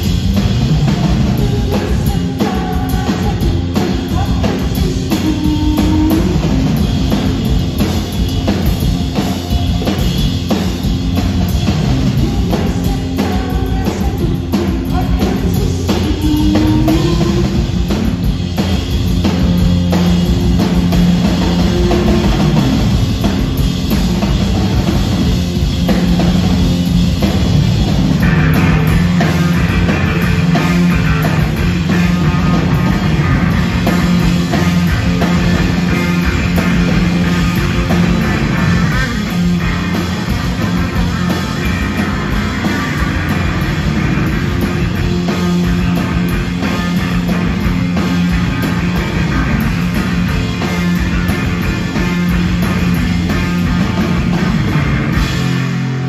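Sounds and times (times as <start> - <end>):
driving drums: 0.0 - 56.0
electric guitar: 0.0 - 56.0
live rock band playing: 0.0 - 56.0.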